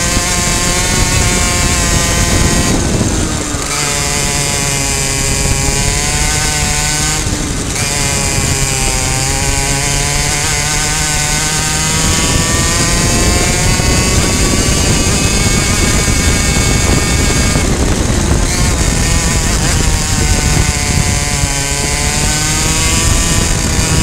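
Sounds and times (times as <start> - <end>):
two-stroke kart engine revving: 0.0 - 24.0.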